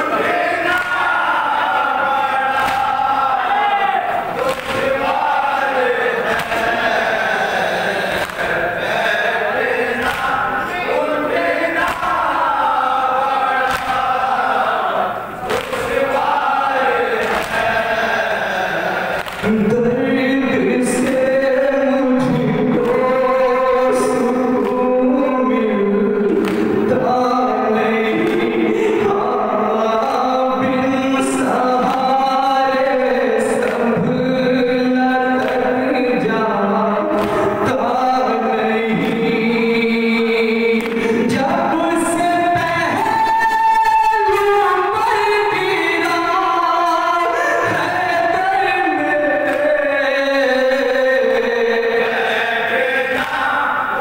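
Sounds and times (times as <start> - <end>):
men chanting a lament: 0.0 - 54.0.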